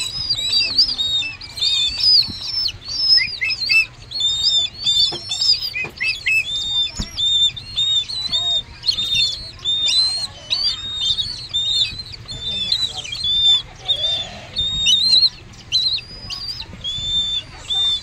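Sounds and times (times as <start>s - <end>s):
bird chick chirping: 0.0s - 18.0s.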